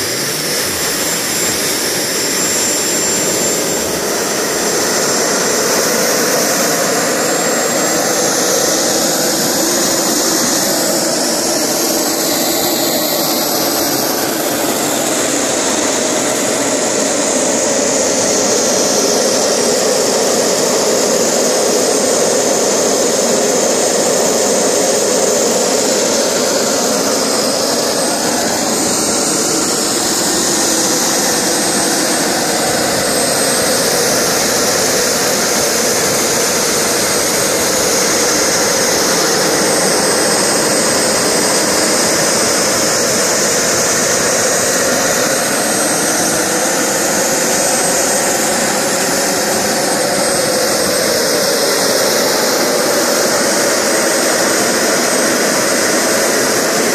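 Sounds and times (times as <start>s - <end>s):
gas turbine jet roar: 0.0s - 56.9s.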